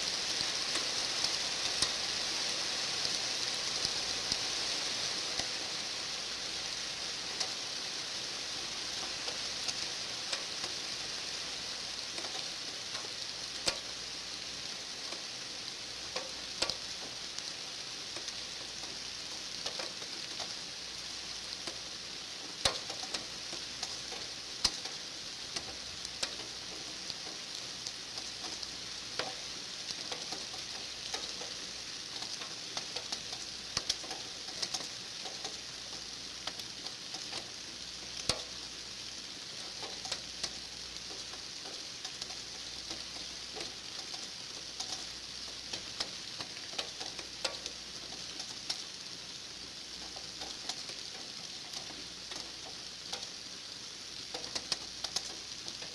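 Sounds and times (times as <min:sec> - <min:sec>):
steady rain falling: 0:00.0 - 0:55.9
raindrops tapping: 0:00.1 - 0:55.9.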